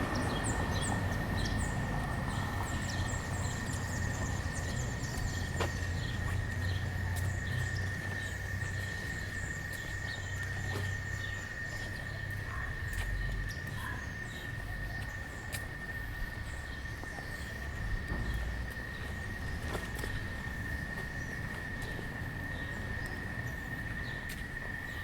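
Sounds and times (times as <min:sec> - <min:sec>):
low traffic rumble: 0:00.0 - 0:25.0
steady high-pitched whine: 0:00.0 - 0:25.0.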